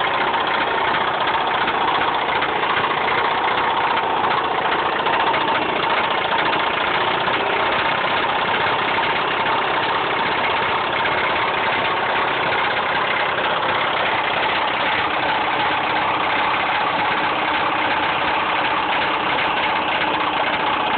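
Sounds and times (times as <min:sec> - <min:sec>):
car engine idling: 0:00.0 - 0:20.9
heavy engine knock: 0:00.0 - 0:20.9.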